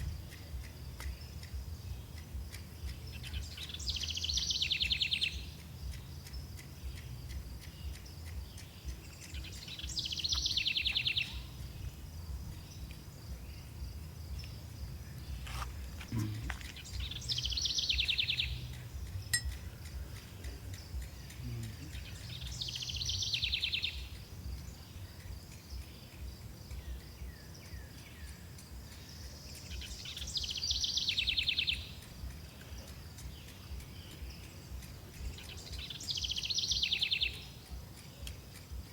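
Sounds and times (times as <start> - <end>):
insect pulsing trill: 0.0 - 38.9
steady low rumble: 0.0 - 38.9.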